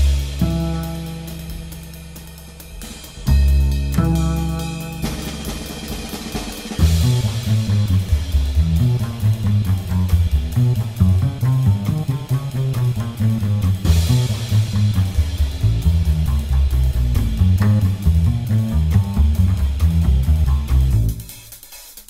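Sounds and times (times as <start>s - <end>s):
cymbal crash: 0.0s - 18.3s
music with drum beat and bass: 0.0s - 22.0s.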